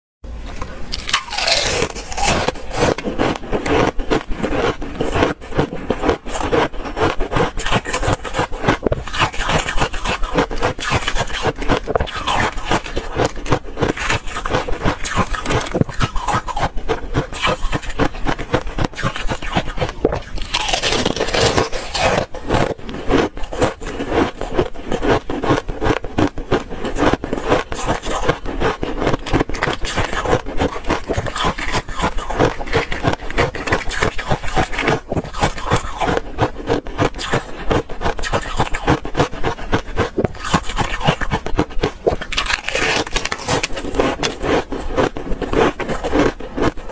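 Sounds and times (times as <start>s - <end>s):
ice crunching between teeth: 0.9s - 46.9s.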